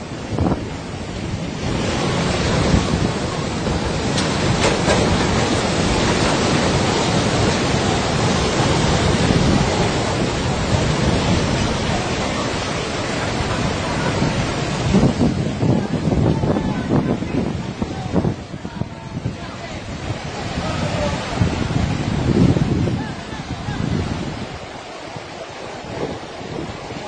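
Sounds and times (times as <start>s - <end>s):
rough water: 0.0s - 27.0s
storm wind rushing: 0.0s - 27.0s
wind buffeting microphone: 0.0s - 27.0s.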